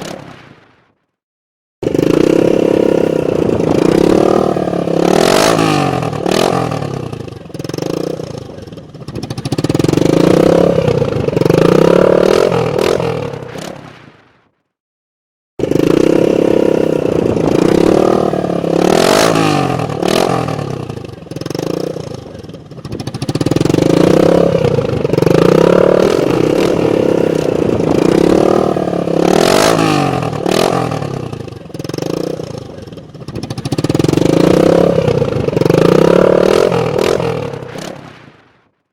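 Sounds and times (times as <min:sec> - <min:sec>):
motorcycle engine revving: 0:01.8 - 0:14.0, 0:15.6 - 0:38.3.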